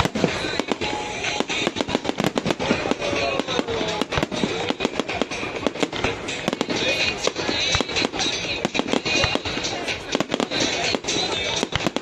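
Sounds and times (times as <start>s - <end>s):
fireworks cracks and bangs: 0.0s - 12.0s
music playing: 0.0s - 12.0s.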